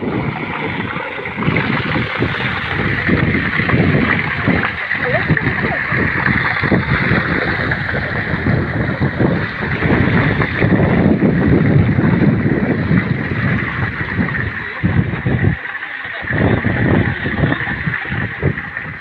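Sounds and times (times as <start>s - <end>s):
water gushing into a tank: 0.0s - 19.0s.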